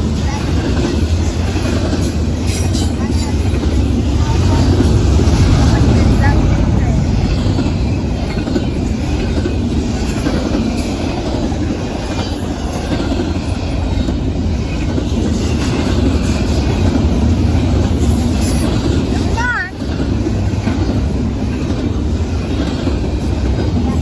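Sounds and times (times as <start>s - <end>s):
clickety-clack of track joints: 0.0s - 24.0s
train wheels rumbling on rail: 0.0s - 24.0s.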